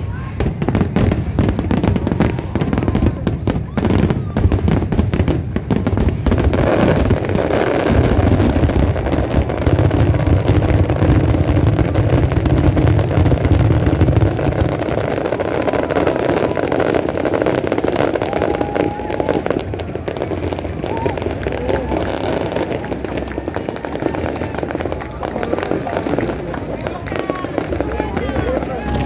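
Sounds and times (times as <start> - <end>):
crackling fireworks: 0.0 - 29.0.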